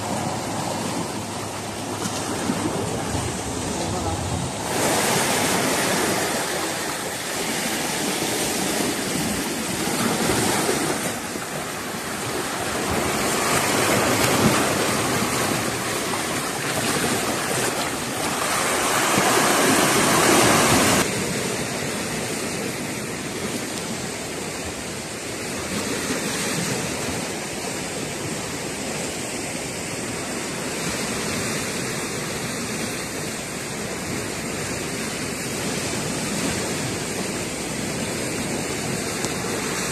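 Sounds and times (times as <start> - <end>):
sea waves on rocky shore: 0.0 - 39.9.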